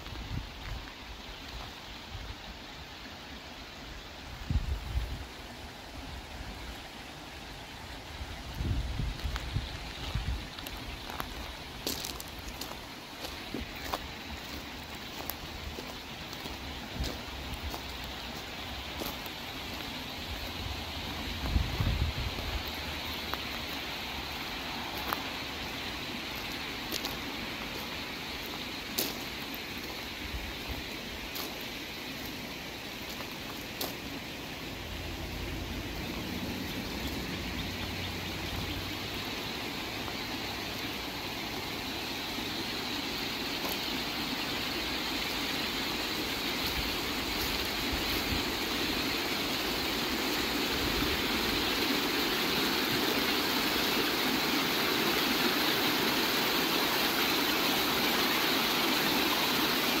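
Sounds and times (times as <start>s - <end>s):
stream rushing over rocks: 0.0s - 60.0s.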